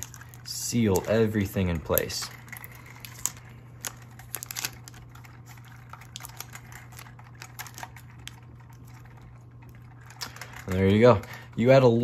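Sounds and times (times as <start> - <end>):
faint low hum: 0.0 - 12.0
tape and plastic crackling: 0.0 - 12.0.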